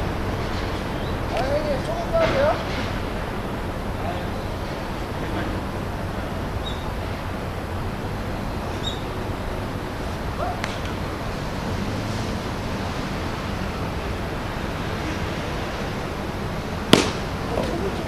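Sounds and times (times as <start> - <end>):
low outdoor background noise: 0.0 - 18.0.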